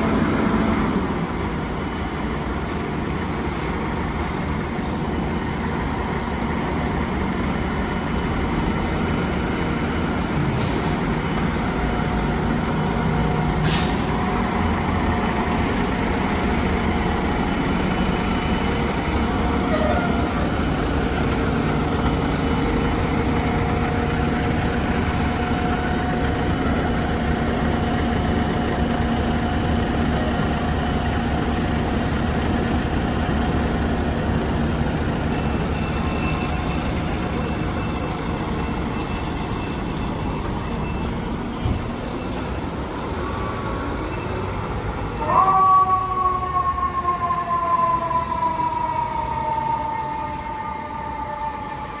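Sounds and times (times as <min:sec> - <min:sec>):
diesel engine running: 0:00.0 - 0:49.6.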